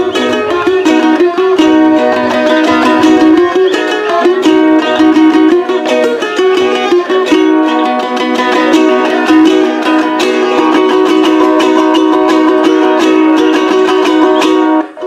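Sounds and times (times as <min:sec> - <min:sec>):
plucked string band music: 0:00.0 - 0:15.0.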